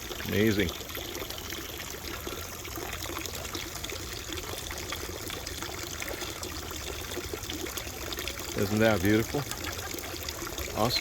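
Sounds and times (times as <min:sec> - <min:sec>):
drinking fountain water pouring: 0:00.0 - 0:11.0.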